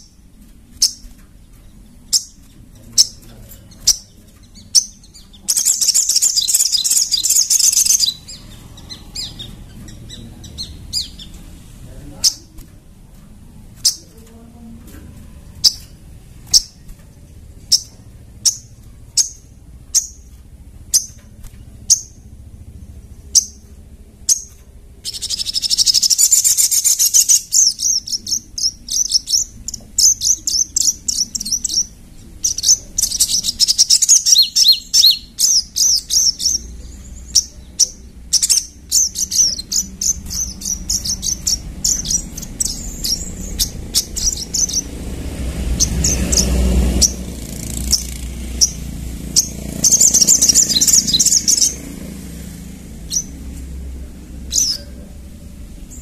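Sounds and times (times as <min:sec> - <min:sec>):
songbird chirping and twittering: 0:00.0 - 0:56.0.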